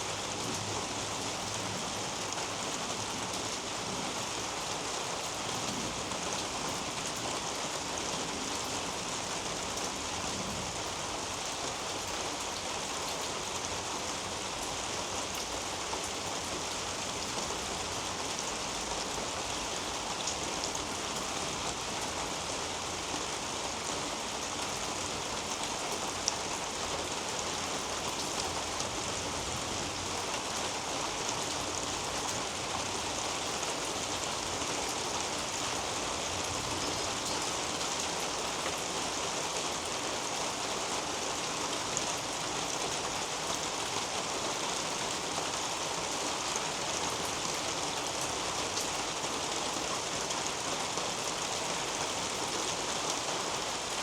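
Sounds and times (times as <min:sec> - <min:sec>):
rain on roof and leaves: 0:00.0 - 0:54.0.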